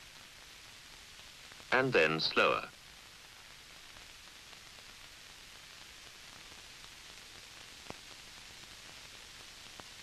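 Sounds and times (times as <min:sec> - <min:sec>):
film soundtrack hiss: 0:00.0 - 0:10.0.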